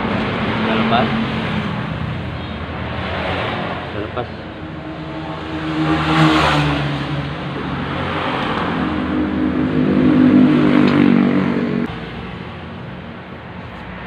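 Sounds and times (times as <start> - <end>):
engine revving: 0.0 - 11.9.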